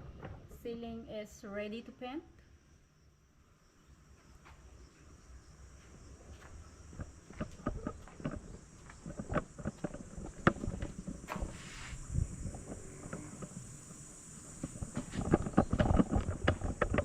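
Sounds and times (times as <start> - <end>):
high-pitched insect chorus: 0.6 - 17.0.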